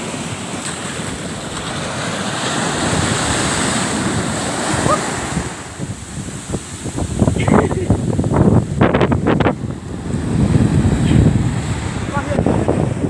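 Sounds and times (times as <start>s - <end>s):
sea surf breaking on beach: 0.0s - 13.0s.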